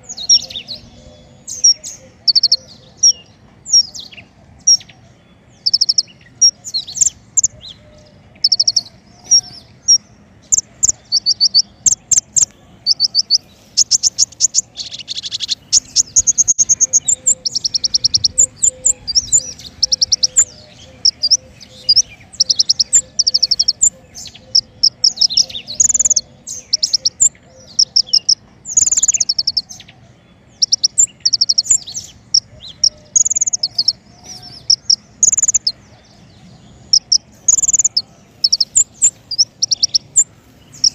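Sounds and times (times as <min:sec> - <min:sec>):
songbird high-pitched trills: 0:00.0 - 0:40.9.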